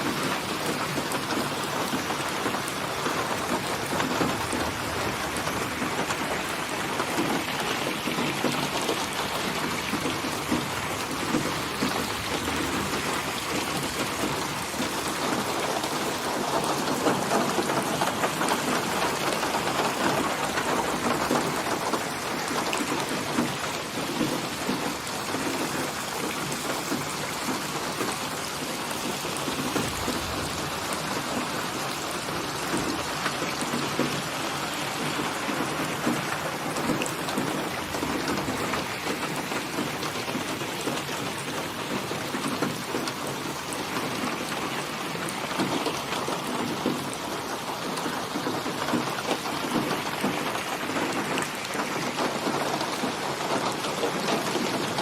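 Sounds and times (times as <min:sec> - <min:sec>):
rain hissing: 0:00.0 - 0:55.0
raindrops tapping on a surface: 0:00.0 - 0:55.0.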